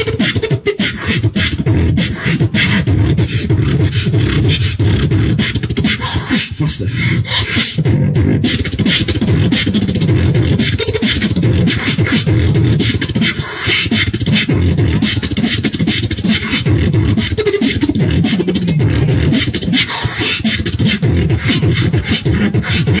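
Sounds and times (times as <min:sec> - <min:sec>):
hummed bass line: 0:00.0 - 0:05.9, 0:07.8 - 0:13.4, 0:14.0 - 0:19.8, 0:20.5 - 0:23.0
fast beatboxing: 0:00.0 - 0:23.0.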